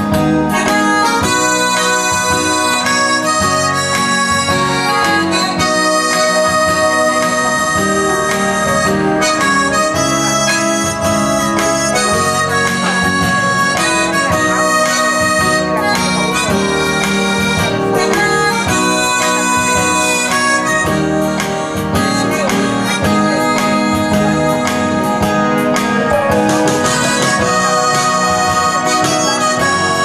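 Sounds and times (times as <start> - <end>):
backing track with steady beat: 0.0 - 30.0
harmonica melody: 0.0 - 30.0.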